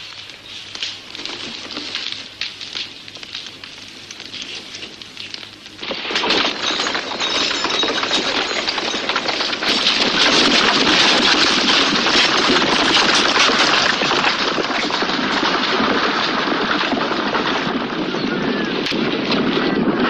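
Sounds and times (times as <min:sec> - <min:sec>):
horses' hooves galloping: 0:00.0 - 0:20.0
sparse crackling: 0:00.0 - 0:20.0.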